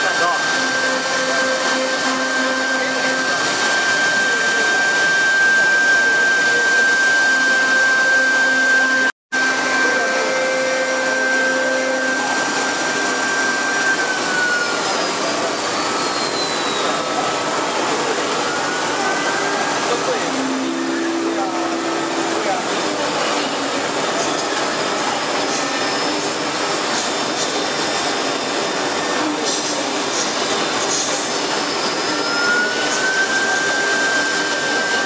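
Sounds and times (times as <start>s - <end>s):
router high whine: 0.0s - 35.0s.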